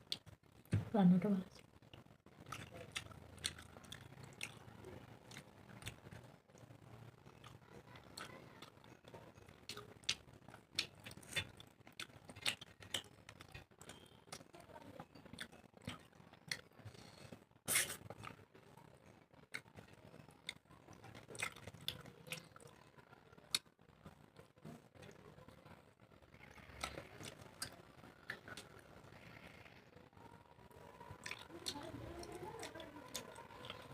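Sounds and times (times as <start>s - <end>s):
person chewing food: 0.0s - 0.8s, 1.6s - 18.4s, 19.0s - 25.2s, 26.4s - 29.8s, 31.0s - 33.9s.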